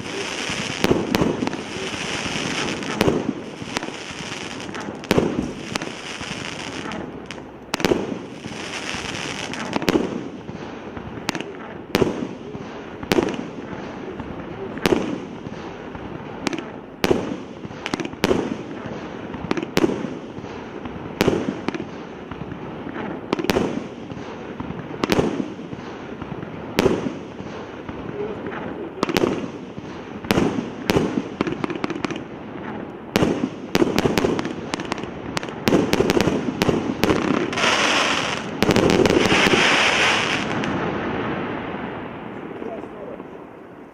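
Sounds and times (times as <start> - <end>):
firework bangs: 0.0 - 43.9
firework crackling: 0.0 - 43.9.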